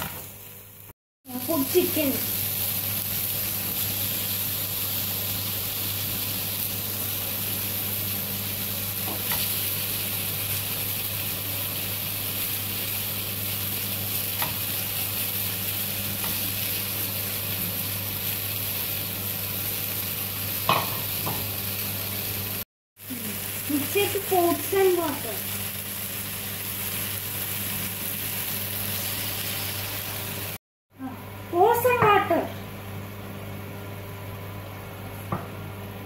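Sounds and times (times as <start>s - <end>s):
food sizzling in a pan: 0.0s - 30.6s.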